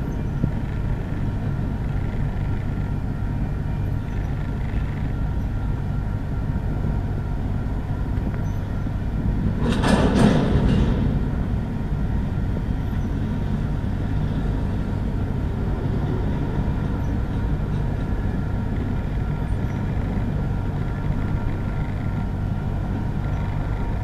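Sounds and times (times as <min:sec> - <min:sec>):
freight cars rumbling on rails: 0:00.0 - 0:24.0.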